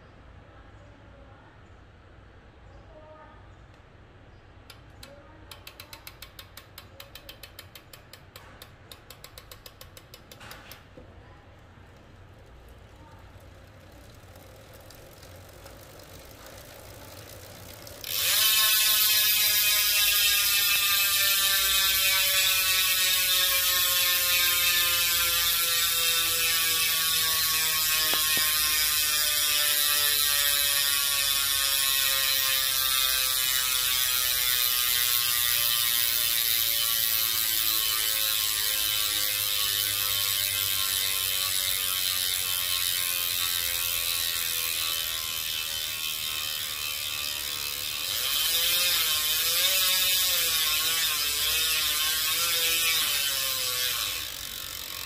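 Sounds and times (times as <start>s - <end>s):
freehub ratchet clicking: 4.6s - 11.0s, 11.9s - 55.0s.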